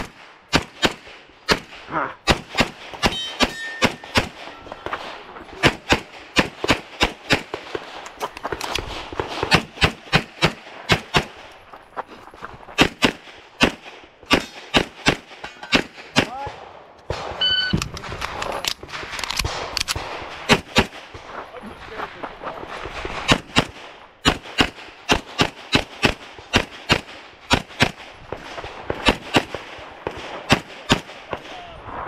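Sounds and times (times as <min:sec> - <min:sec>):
pistol shots: 0:00.0 - 0:11.6, 0:12.8 - 0:21.3, 0:22.6 - 0:31.6.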